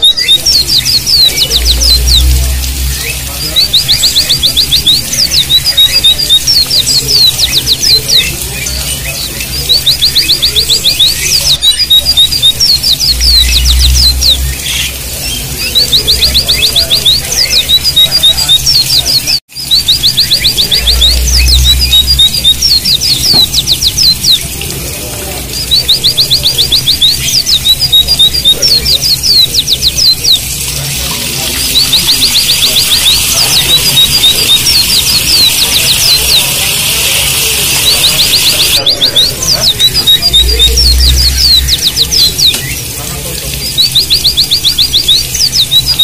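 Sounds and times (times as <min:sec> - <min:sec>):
birds singing: 0:00.0 - 0:46.0
running water hiss: 0:00.0 - 0:46.0.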